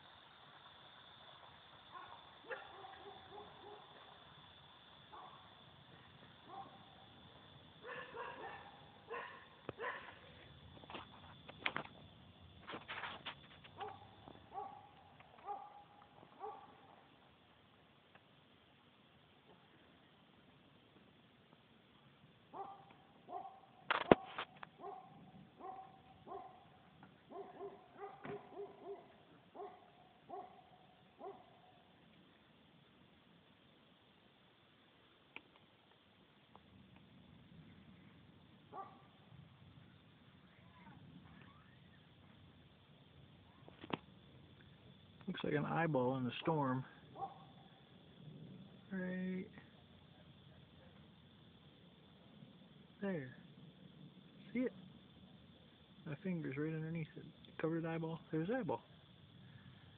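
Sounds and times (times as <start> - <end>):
low steady hiss: 0.0 - 59.9.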